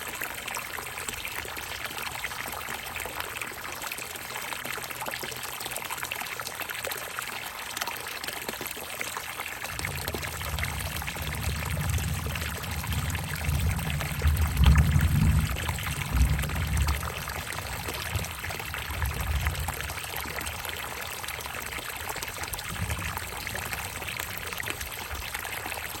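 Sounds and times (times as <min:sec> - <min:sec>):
water pouring into a bucket: 0:00.0 - 0:26.0.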